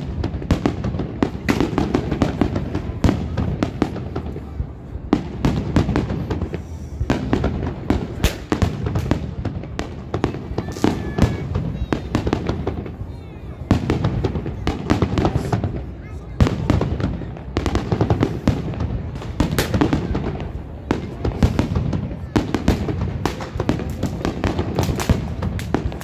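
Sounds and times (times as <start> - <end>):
fireworks bursting: 0.0 - 26.0
fireworks crackling: 0.0 - 26.0.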